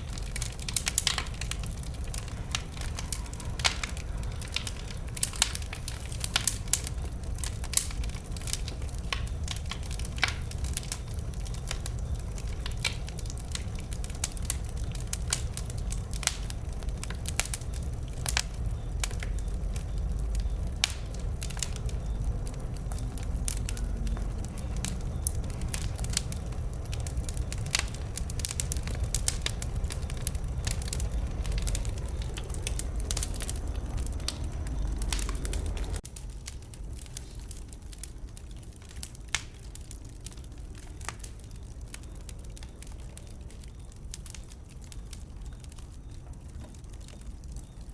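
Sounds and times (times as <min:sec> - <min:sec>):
bonfire crackling and popping: 0:00.0 - 0:47.9
low rumble of flames: 0:00.0 - 0:47.9.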